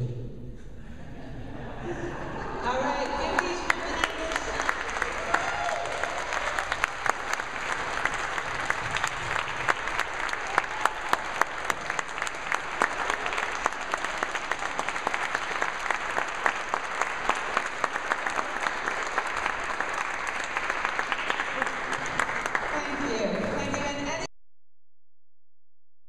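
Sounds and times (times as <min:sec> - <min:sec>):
crowd applauding: 0:02.2 - 0:24.3.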